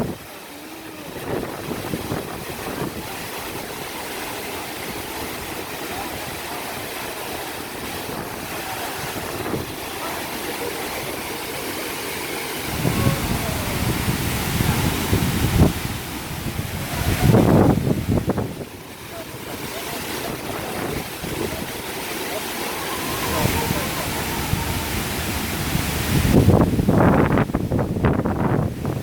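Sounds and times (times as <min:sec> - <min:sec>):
waterfall rushing: 0:00.0 - 0:29.0
wind buffeting microphone: 0:01.0 - 0:11.2, 0:12.5 - 0:29.0.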